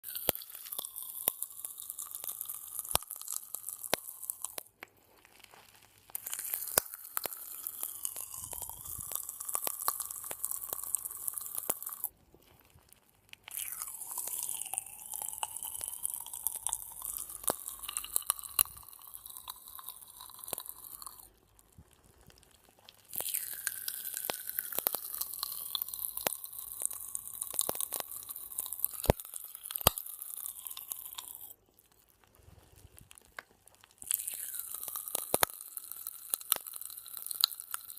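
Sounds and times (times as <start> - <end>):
popping candy crackling and fizzing: 0.0 - 37.9.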